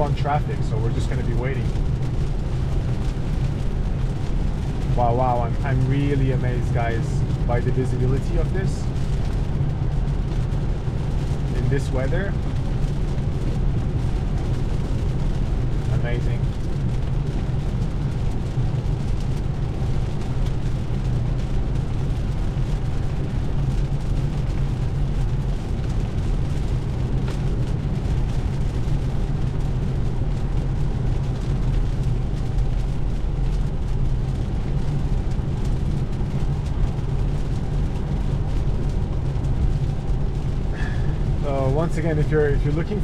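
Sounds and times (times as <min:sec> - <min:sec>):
deep rumble: 0:00.0 - 0:43.0
heavy rain on a car: 0:00.0 - 0:43.0.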